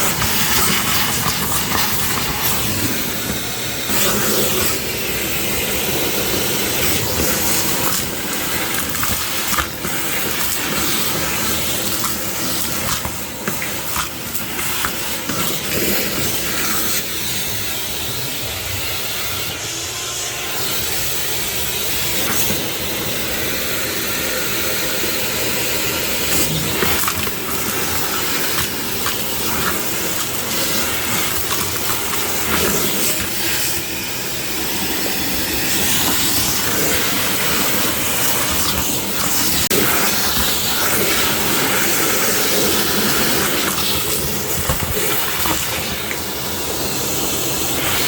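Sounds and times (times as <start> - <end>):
debris clicking in vacuum hose: 0.0 - 18.7, 21.8 - 23.1, 25.9 - 48.0
wet dry vacuum running: 0.0 - 48.0.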